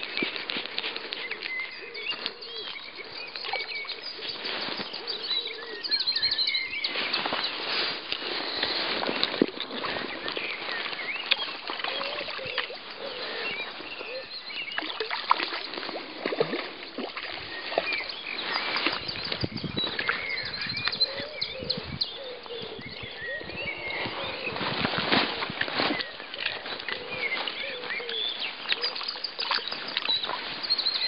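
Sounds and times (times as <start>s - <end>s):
birds singing and chirping: 0.0s - 31.0s.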